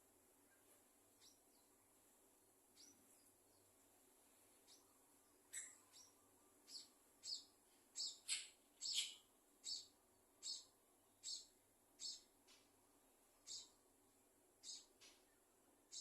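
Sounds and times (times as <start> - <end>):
birds chirping: 0.4 - 2.1, 2.7 - 13.8, 14.5 - 16.0.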